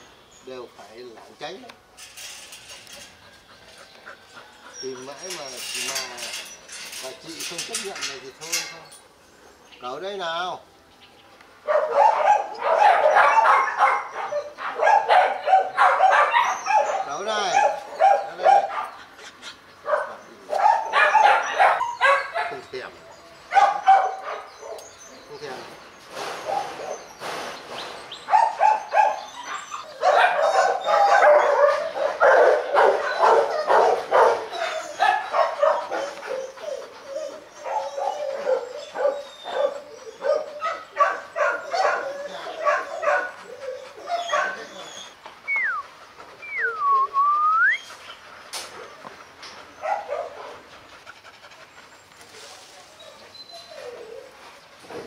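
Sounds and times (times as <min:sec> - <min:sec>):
dogs barking and snarling: 0:02.5 - 0:06.6, 0:11.6 - 0:47.2, 0:48.0 - 0:55.0.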